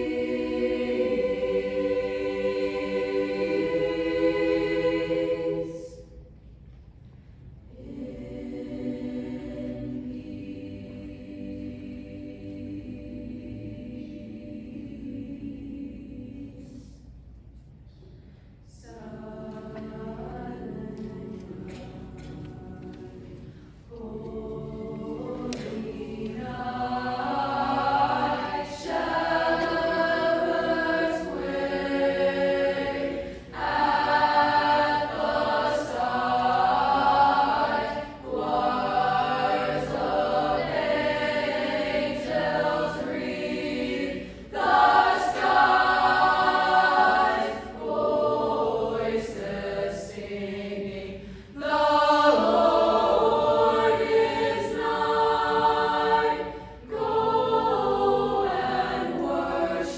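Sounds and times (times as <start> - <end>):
mixed choir singing: 0.0 - 6.2, 7.6 - 17.2, 18.7 - 59.9.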